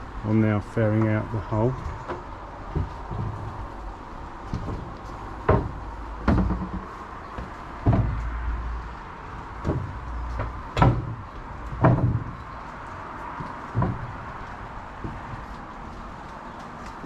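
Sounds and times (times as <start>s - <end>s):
background hum: 0.0s - 17.0s
footsteps on wooden boards: 0.3s - 17.0s.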